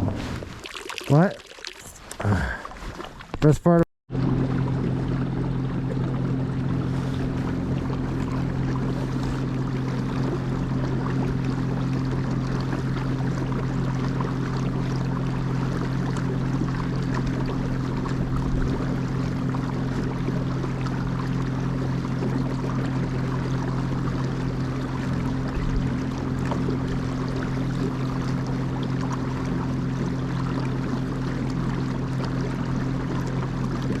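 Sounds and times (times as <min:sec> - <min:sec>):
boat motor humming: 0:00.0 - 0:34.0
water and air rushing: 0:00.0 - 0:34.0.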